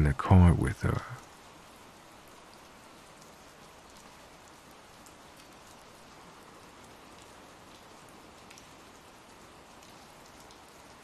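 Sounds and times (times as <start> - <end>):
steady rainfall hiss: 0.0 - 11.0.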